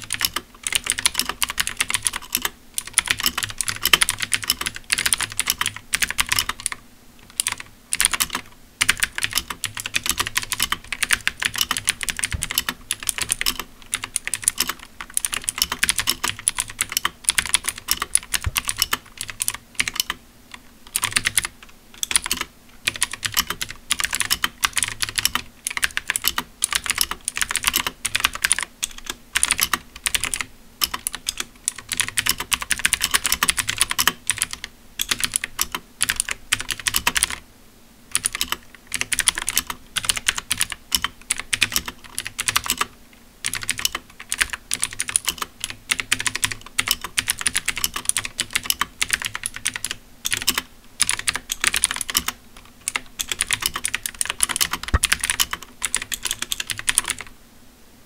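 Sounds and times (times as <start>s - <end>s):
mechanical keyboard typing: 0.0s - 37.4s, 38.1s - 57.3s.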